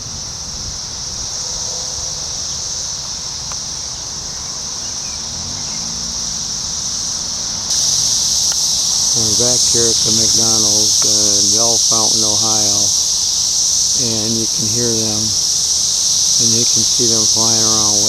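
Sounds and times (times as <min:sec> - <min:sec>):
cicadas droning: 0:00.0 - 0:18.0.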